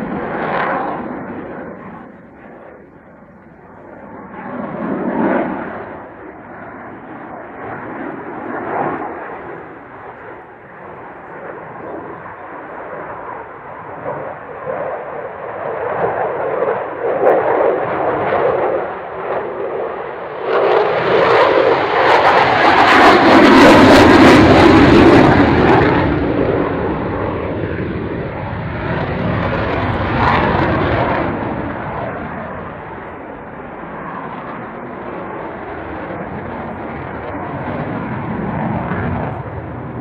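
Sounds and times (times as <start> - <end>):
jet engine noise with harsh crackle: 0.0 - 40.0.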